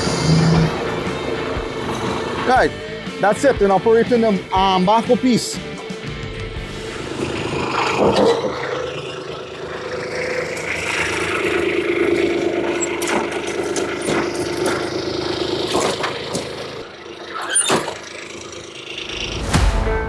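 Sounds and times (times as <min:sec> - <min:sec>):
digging machine engine running: 0:00.0 - 0:19.3.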